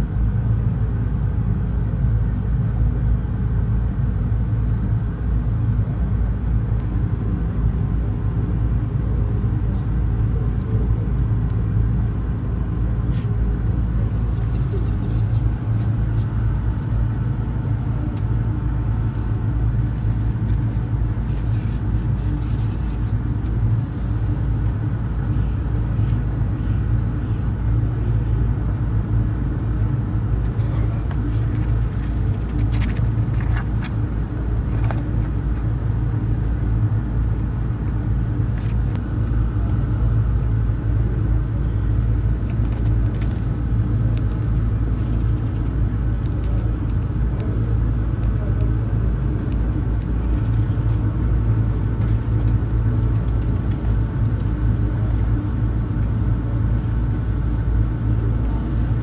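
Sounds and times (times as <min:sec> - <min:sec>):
motor rumble and hum: 0:00.0 - 0:59.0.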